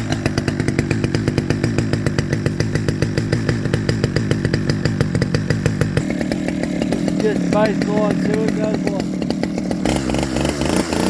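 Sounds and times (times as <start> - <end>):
chainsaw running steadily: 0.0 - 11.0.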